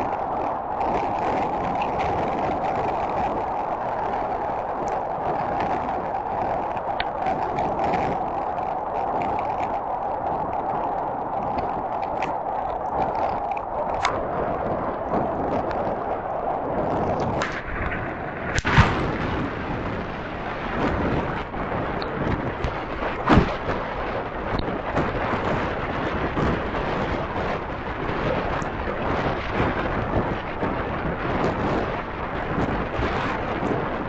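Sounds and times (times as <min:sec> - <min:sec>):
heavy rain: 0:00.0 - 0:34.0
strong wind: 0:00.0 - 0:34.0
wind buffeting microphone: 0:00.0 - 0:34.0.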